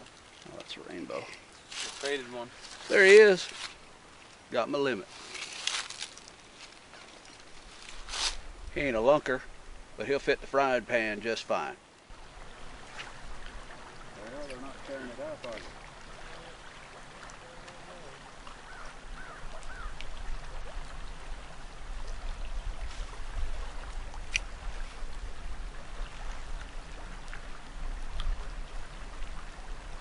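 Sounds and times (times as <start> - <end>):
river water flowing over riffle: 0.0 - 30.0.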